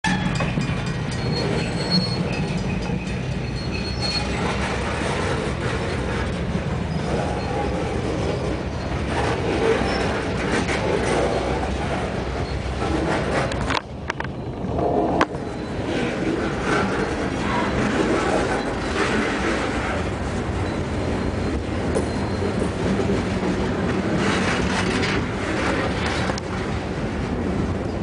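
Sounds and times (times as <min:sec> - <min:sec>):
high wheel squeal: 0:00.0 - 0:23.1
freight train wheels clattering: 0:00.0 - 0:28.0.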